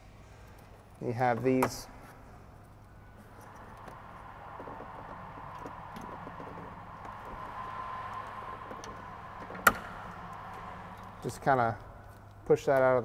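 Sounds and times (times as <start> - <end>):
faint steady whine: 0.0 - 13.0
steady low hum: 0.0 - 13.0.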